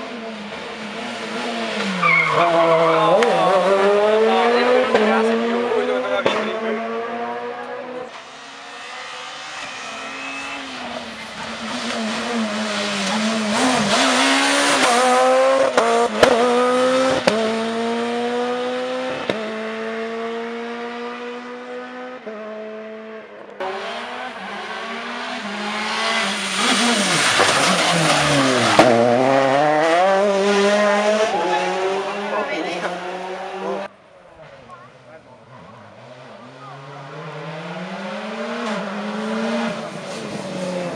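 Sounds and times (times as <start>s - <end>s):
rally car engine accelerating: 0.0s - 40.9s.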